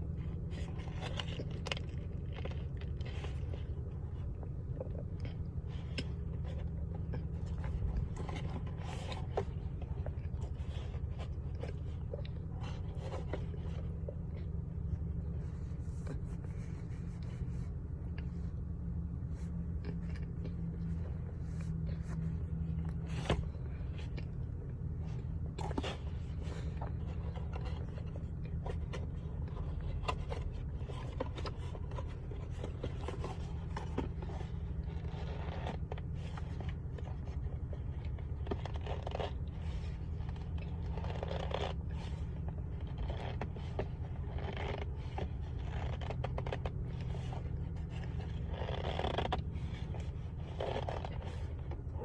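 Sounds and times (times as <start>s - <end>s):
chewing crunches: 0.0s - 52.0s
low hum: 0.0s - 52.0s.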